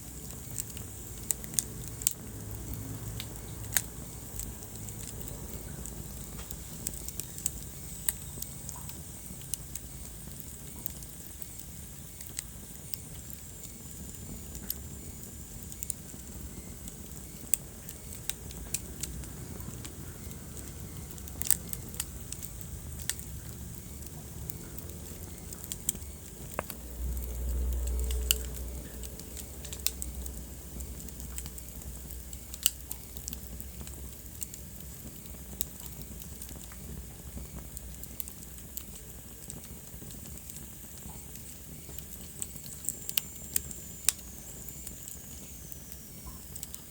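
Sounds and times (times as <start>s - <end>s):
low rumble of burning: 0.0s - 46.9s
wood fire crackling: 0.0s - 46.9s.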